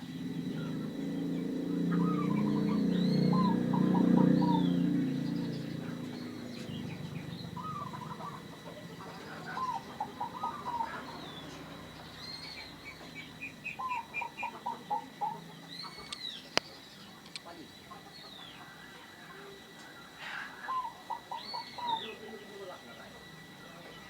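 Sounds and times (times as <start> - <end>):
dove cooing: 0.0 - 24.0
small bird chirping: 0.0 - 24.0.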